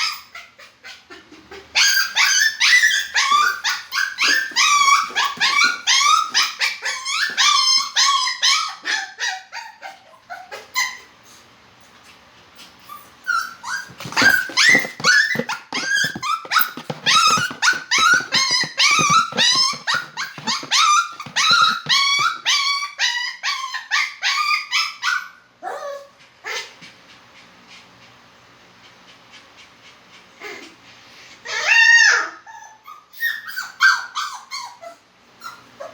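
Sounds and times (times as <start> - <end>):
dog crying: 0.0 - 11.1, 12.9 - 26.7, 31.5 - 35.9
dog whining yelps: 0.0 - 11.1, 12.8 - 26.7, 31.4 - 35.9.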